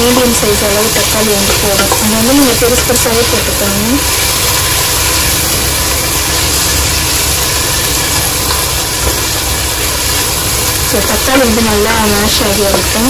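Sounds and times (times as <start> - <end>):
tomatoes sizzling in oil: 0.0 - 13.0.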